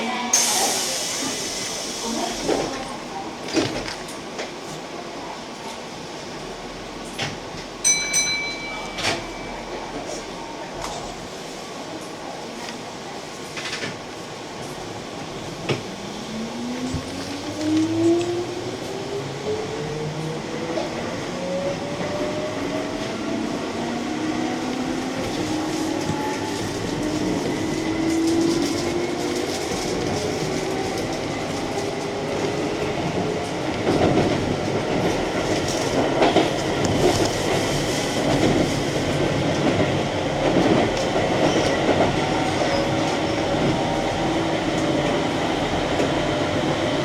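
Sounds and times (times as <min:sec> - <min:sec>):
train running rumble: 0:00.3 - 0:47.0.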